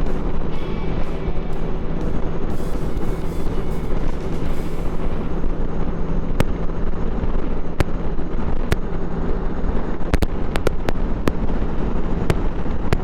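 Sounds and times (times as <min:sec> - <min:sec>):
motorcycle engine drone: 0:00.0 - 0:13.0.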